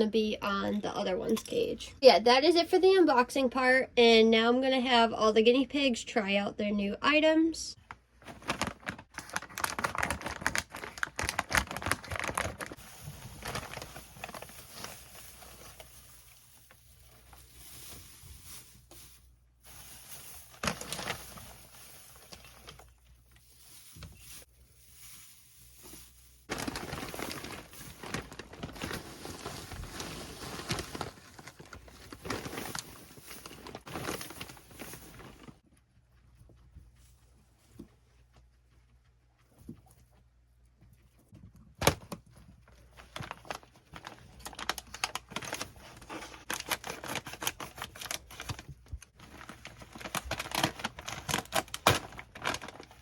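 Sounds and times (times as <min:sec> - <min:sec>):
guinea pigs rustling and crinkling: 0:07.2 - 0:53.0.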